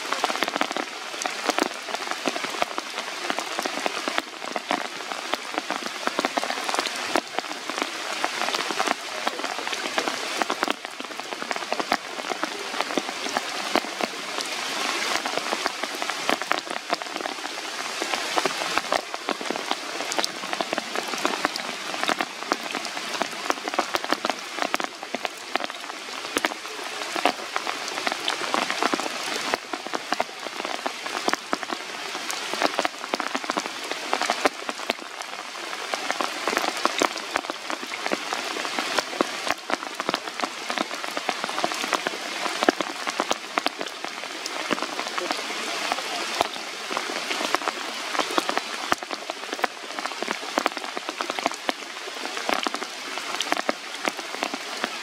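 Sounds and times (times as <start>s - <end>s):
close raindrops striking: 0.0s - 55.0s
rain falling on leaves: 0.0s - 55.0s.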